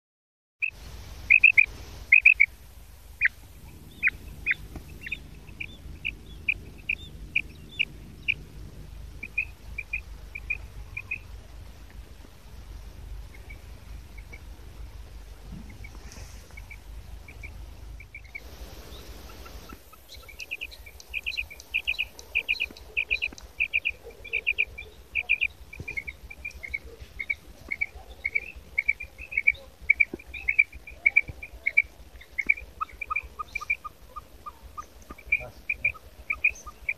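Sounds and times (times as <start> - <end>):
quail calling: 0.6 - 11.4, 13.2 - 36.9.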